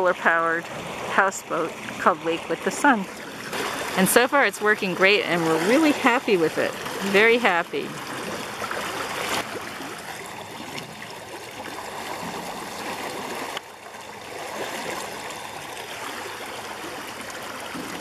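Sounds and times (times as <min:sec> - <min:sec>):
propeller churning water: 0:00.0 - 0:18.0.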